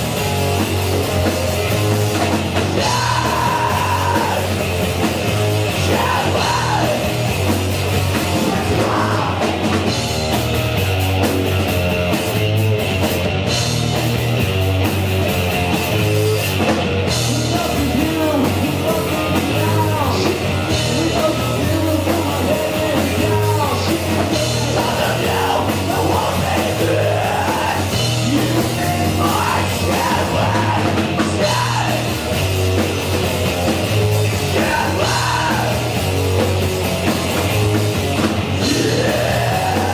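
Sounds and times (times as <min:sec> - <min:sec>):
yelled vocals: 0:00.0 - 0:12.4, 0:16.5 - 0:39.9
punk rock band playing live: 0:00.0 - 0:39.9.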